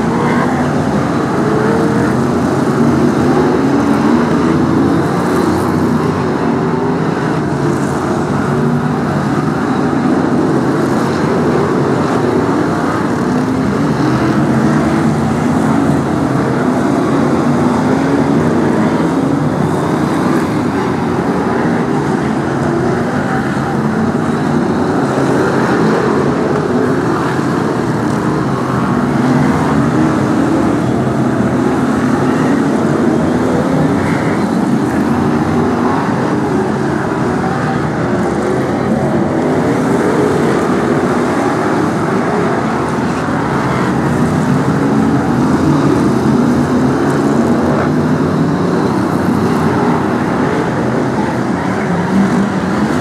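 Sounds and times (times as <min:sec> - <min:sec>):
race car engines droning: 0:00.0 - 0:53.0.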